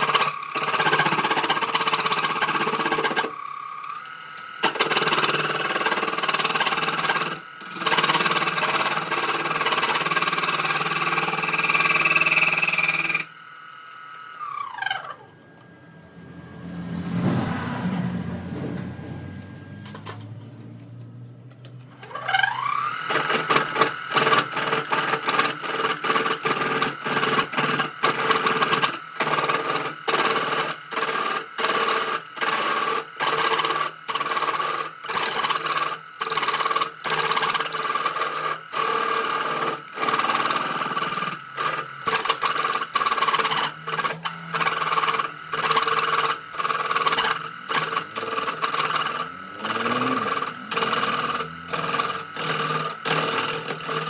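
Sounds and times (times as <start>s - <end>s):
power tool motor: 0.0s - 15.7s, 21.9s - 54.0s.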